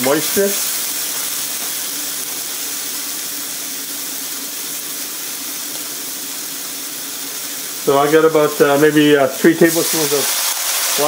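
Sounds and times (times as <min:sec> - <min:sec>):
water hissing into steam: 0:00.0 - 0:02.0, 0:02.6 - 0:11.0
food sizzling in a wok: 0:00.0 - 0:11.0.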